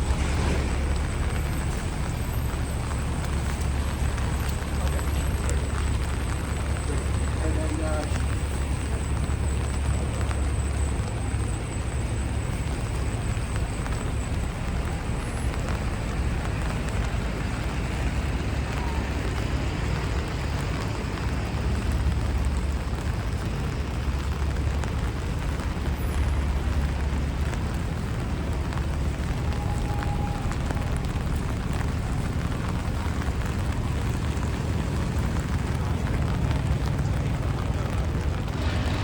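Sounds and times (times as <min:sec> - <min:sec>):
passing traffic rumble: 0:00.0 - 0:39.0
rain on wet street: 0:00.0 - 0:39.0.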